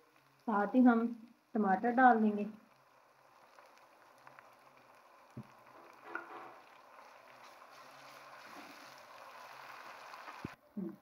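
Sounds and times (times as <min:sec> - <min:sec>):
tomatoes sizzling in oil: 0:00.0 - 0:10.6.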